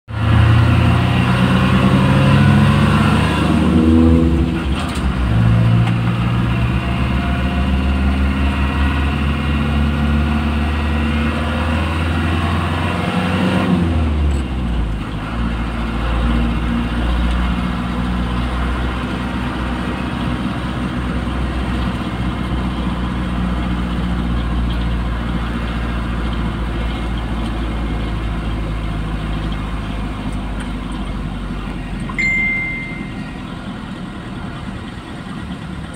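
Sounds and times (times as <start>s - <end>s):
vehicle engine: 0.1s - 35.9s.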